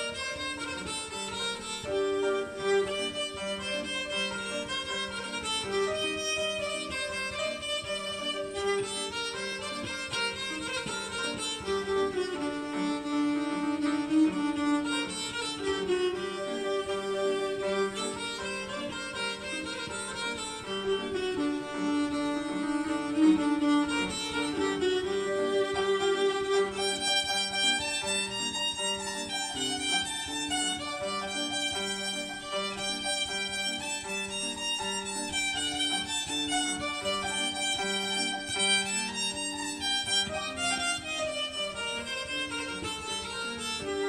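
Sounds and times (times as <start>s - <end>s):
electric violin melody: 0.0s - 44.0s
piano accompaniment: 0.0s - 44.0s.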